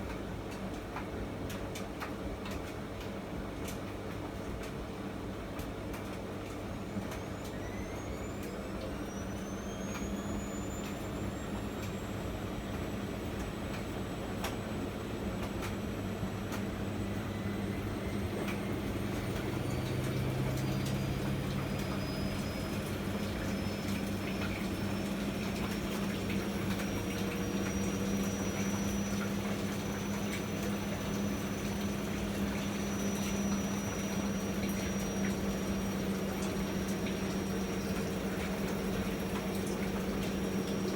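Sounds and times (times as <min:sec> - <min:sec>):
washing machine water sloshing: 0:06.4 - 0:40.9.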